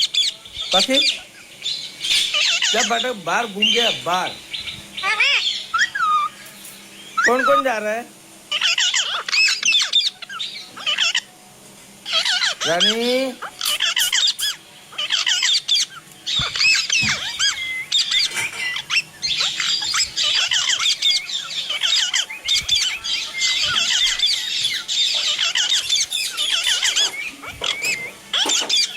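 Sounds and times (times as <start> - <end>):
parrot chattering and squawking: 0.0 - 1.4, 2.0 - 4.0, 5.0 - 6.4, 8.5 - 11.3, 12.0 - 28.9.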